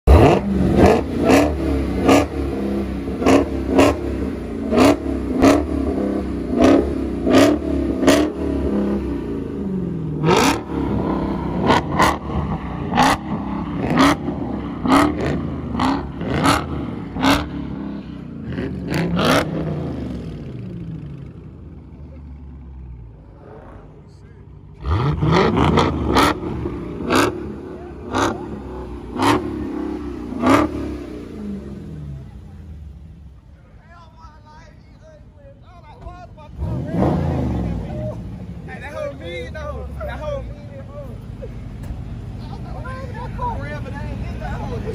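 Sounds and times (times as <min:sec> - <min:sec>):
car engine revving: 0:00.0 - 0:34.3, 0:36.0 - 0:44.9
car engine idling: 0:00.1 - 0:44.9.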